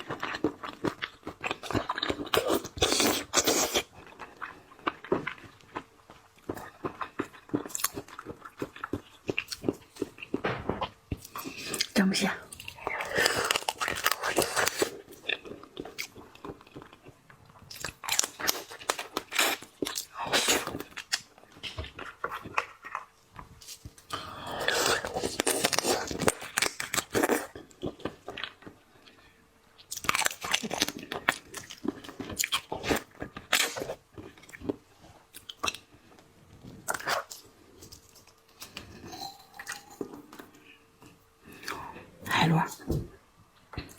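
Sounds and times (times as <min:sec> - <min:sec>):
person chewing crunchy food: 0:00.0 - 0:42.0.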